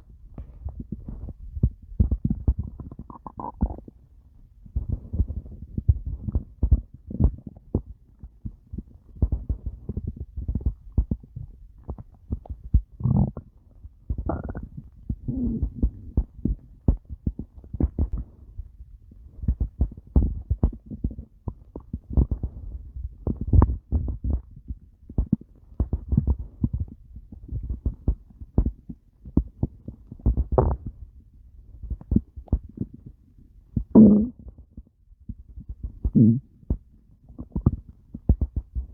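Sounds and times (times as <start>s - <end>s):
stomach growling and gurgling: 0.0s - 38.9s.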